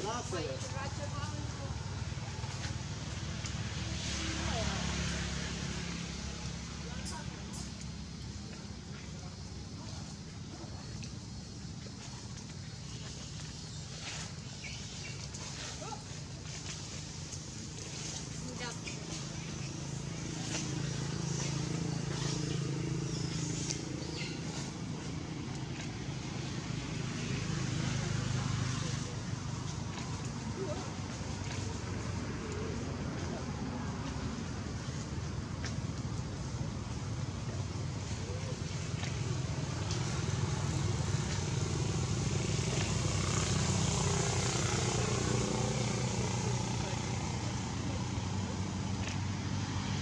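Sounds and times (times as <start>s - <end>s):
low engine hum: 0.0s - 50.0s.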